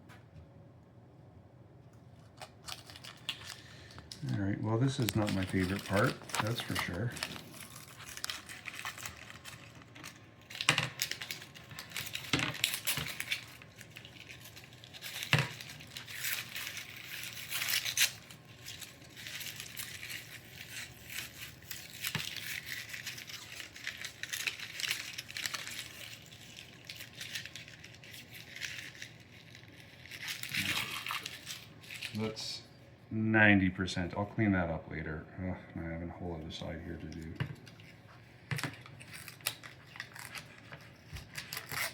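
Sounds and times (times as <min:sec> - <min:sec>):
protective paper peeling and crinkling: 0:02.2 - 0:32.4, 0:36.6 - 0:41.9.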